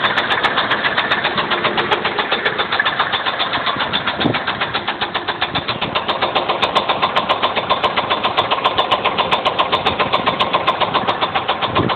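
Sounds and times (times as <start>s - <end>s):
van engine knocking: 0.0s - 11.9s.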